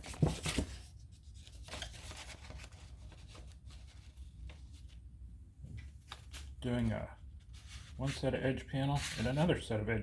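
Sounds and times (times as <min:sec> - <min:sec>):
faint rustling and handling noises: 0:00.0 - 0:10.0.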